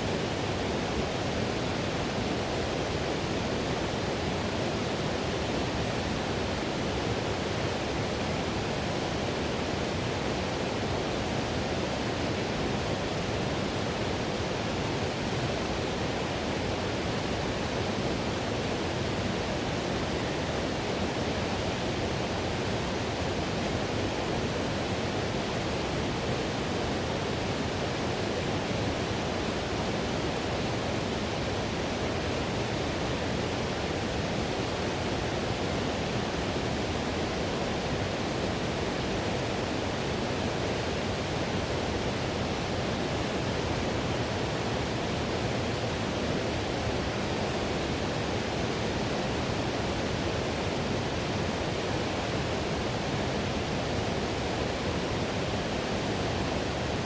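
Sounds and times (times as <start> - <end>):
river rushing over rapids: 0.2 - 57.0.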